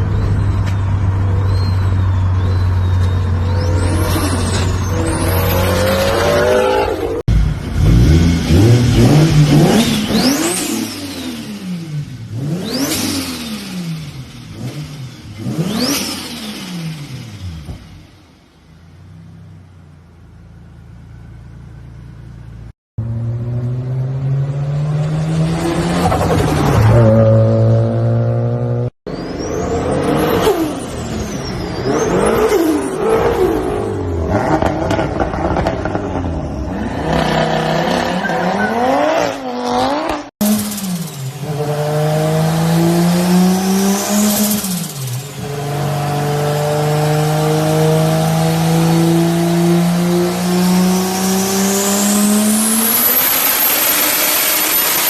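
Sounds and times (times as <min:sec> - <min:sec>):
car engines revving: 0:00.0 - 0:18.1, 0:21.2 - 0:55.0.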